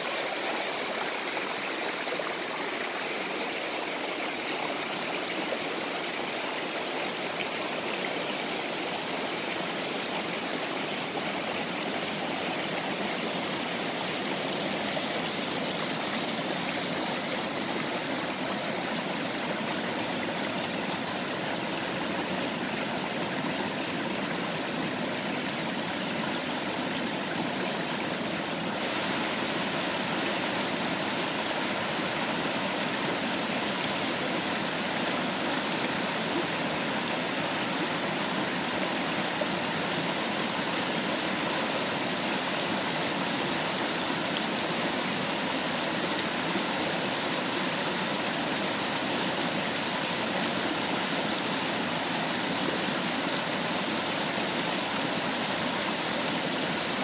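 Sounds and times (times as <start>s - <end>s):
water rushing over waterfall: 0.0s - 57.0s.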